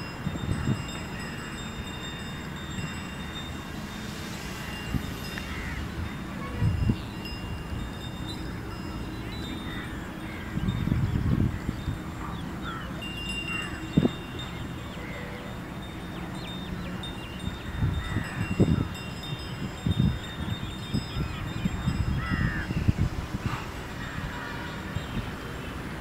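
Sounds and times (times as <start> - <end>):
birds chirping: 0.0 - 22.8, 23.5 - 26.0.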